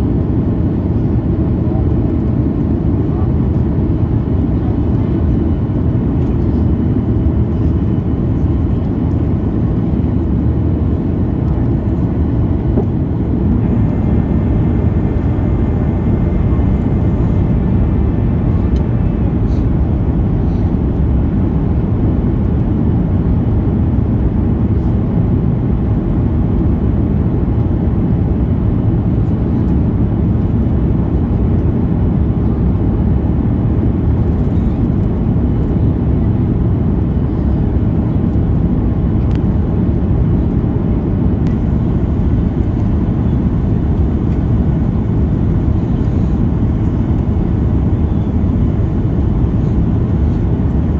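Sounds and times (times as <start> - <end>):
jet engines rumbling: 0.0 - 50.9.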